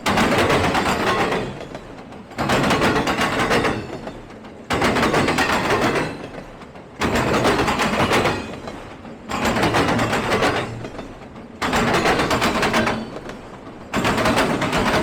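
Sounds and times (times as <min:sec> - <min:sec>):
train wheels clattering over track: 0:00.0 - 0:15.0.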